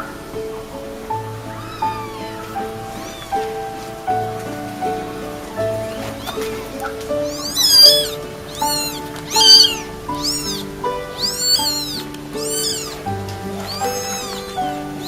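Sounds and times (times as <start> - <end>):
background music with held notes: 0.0 - 15.0
cat meowing: 1.2 - 3.6, 5.0 - 15.0.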